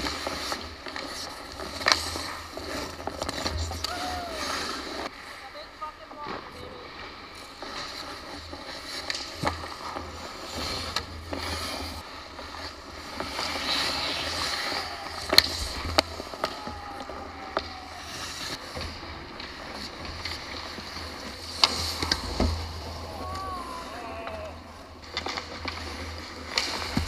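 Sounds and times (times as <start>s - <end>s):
hockey sticks and puck clacking: 0.0s - 5.1s, 5.8s - 27.0s
skate blades scraping ice: 0.0s - 27.0s.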